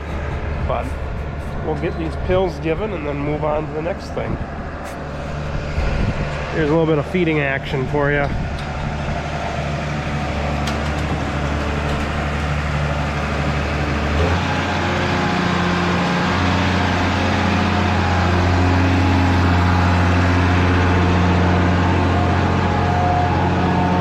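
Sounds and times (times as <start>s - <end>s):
machine engine running: 0.0s - 24.0s.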